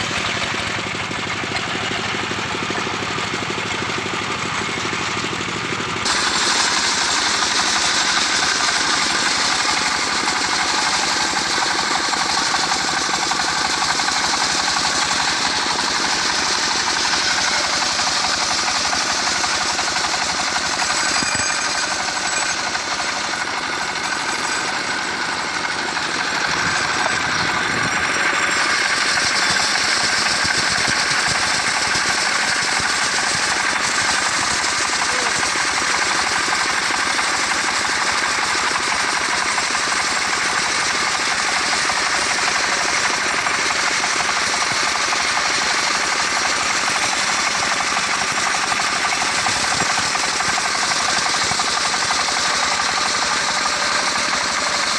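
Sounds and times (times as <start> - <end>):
engine-driven saw cutting log: 0.0 - 54.9.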